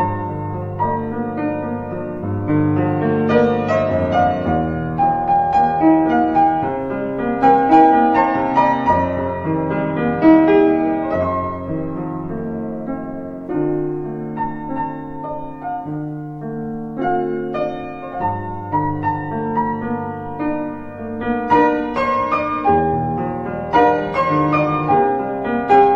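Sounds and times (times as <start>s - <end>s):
slow piano music: 0.0s - 25.9s.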